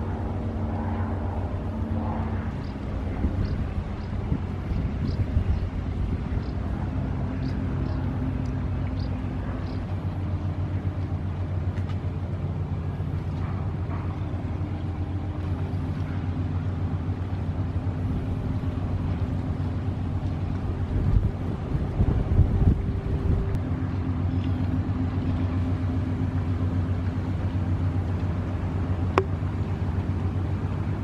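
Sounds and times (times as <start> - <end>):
boat diesel engines droning: 0.0 - 31.0.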